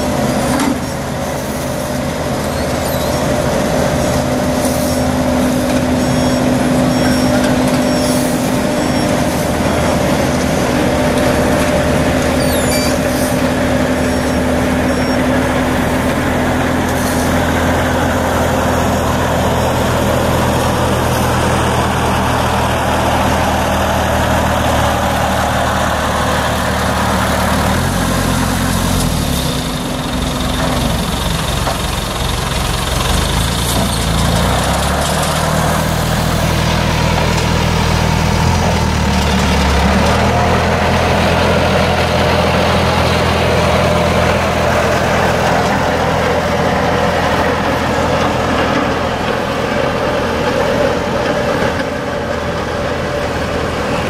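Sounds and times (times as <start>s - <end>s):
paver diesel engine: 0.0s - 54.0s
road roller engine: 0.0s - 54.0s.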